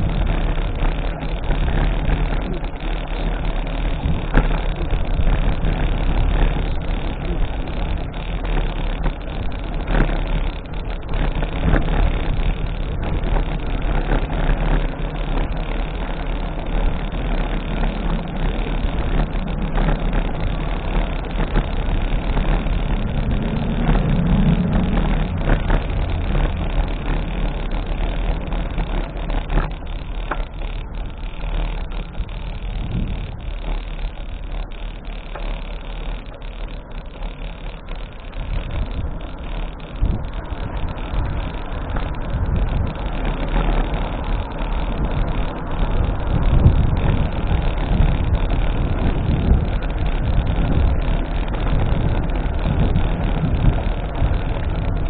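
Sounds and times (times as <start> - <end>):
bicycle clicks and rattles: 0.0 - 55.0
rumbling road noise: 0.0 - 55.0.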